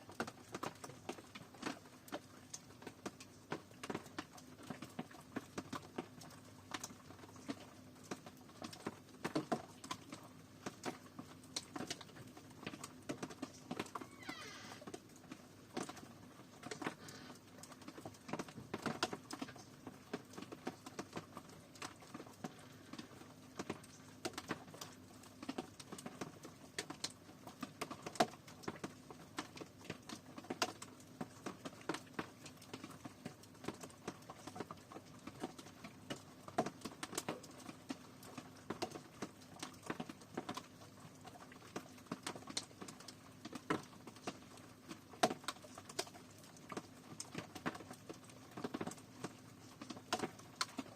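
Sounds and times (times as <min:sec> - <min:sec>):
rain pattering: 0:00.0 - 0:50.9.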